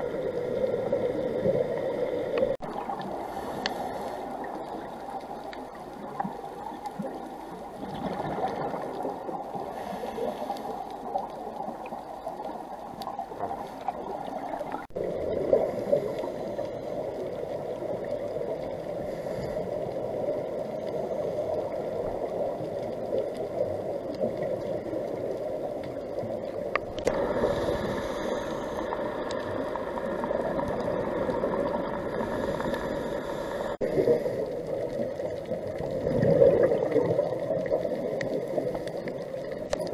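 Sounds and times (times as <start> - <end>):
faint crackles: 0.0 - 39.9
muffled underwater water rush: 0.0 - 39.9.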